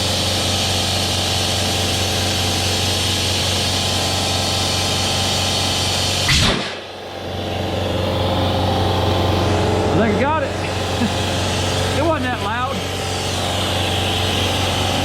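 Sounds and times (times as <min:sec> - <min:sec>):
compressed air blast: 0:00.0 - 0:09.6, 0:10.4 - 0:15.0
steady motor hum: 0:00.0 - 0:15.0.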